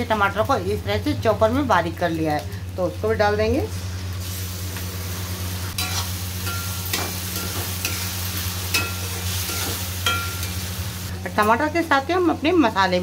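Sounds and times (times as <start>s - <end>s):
puree sizzling in hot oil: 0.3s - 11.4s.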